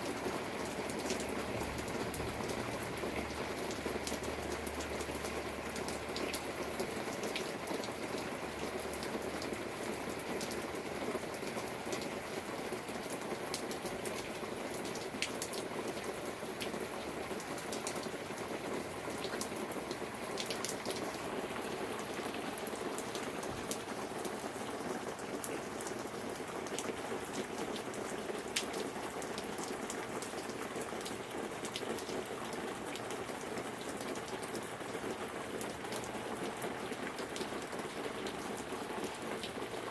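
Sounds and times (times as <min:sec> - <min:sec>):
sharp raindrops striking close by: 0:00.0 - 0:39.9
steady rain falling: 0:00.0 - 0:39.9.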